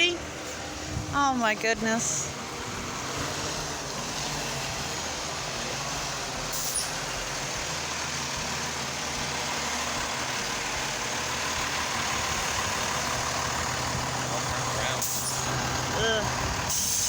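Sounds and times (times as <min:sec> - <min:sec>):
road noise: 0:00.0 - 0:17.0
truck engine driving past: 0:00.0 - 0:17.0.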